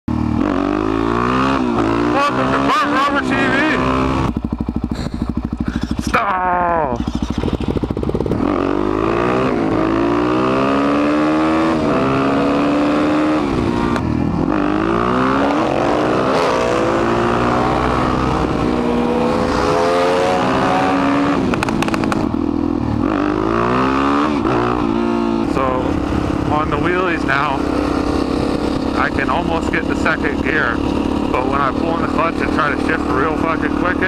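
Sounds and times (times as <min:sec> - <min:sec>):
motorcycle engine accelerating: 0:00.1 - 0:34.0
second motorcycle engine: 0:00.1 - 0:34.0.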